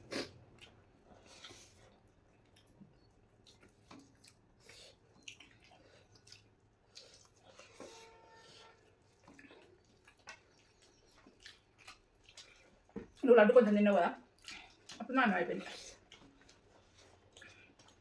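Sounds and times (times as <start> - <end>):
people chewing and smacking: 0.0 - 18.0.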